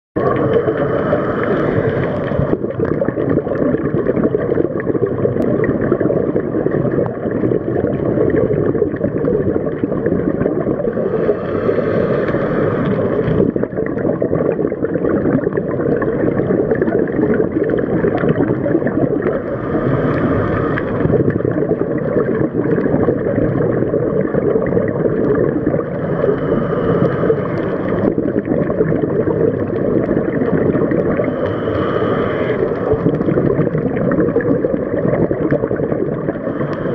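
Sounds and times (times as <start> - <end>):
regulator exhaust bubbles gurgling: 0.2 - 36.9
underwater rush of water: 0.2 - 36.9.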